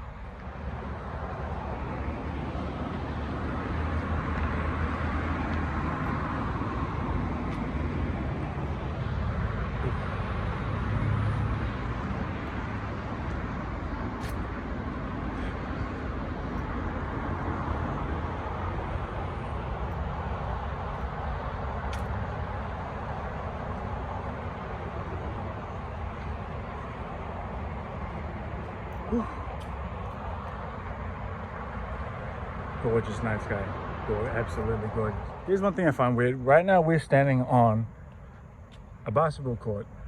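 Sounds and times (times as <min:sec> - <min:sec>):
city road traffic rumble: 0:00.0 - 0:40.0.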